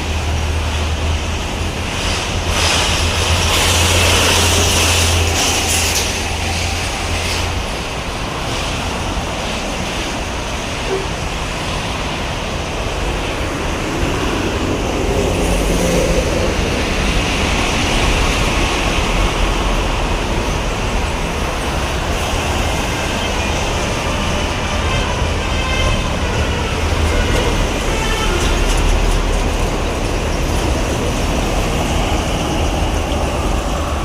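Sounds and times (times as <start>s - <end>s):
highway traffic rumble: 0.0s - 34.0s.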